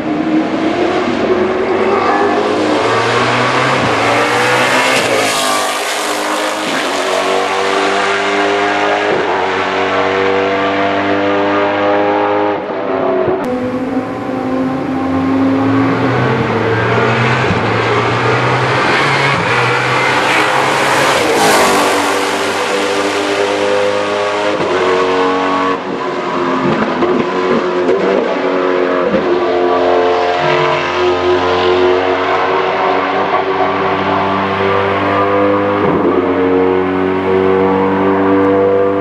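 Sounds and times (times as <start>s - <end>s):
race car accelerating hard: 0.0s - 39.0s.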